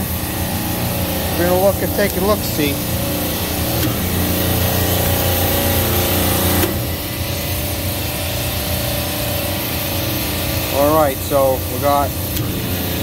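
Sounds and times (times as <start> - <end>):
refrigeration compressor humming: 0.0 - 13.0.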